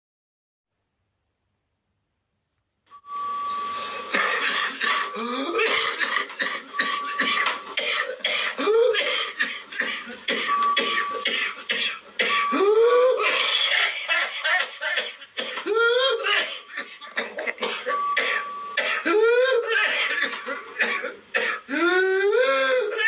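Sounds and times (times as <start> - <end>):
rapid coughing: 3.8 - 23.0.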